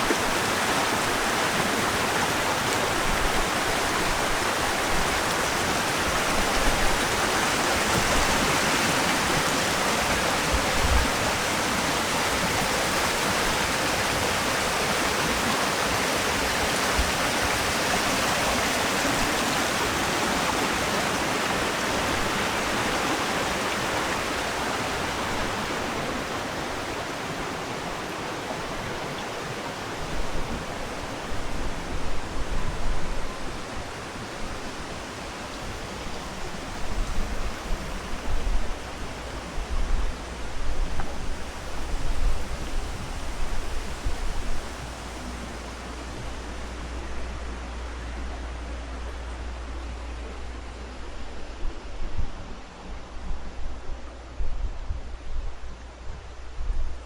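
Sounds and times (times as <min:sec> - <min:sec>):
stream water rushing: 0:00.0 - 0:54.4.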